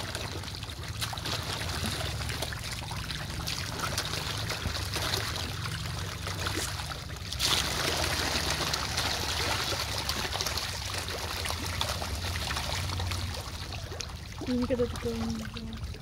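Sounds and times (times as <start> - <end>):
fish splashing at water surface: 0.0 - 16.0.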